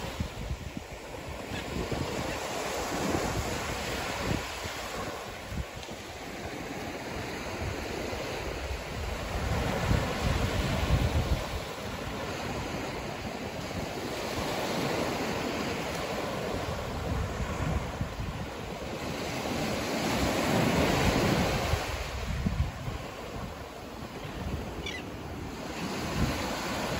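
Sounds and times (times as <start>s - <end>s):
wind buffeting microphone: 0.0s - 6.2s, 7.1s - 26.9s
waves breaking on beach: 0.0s - 26.9s.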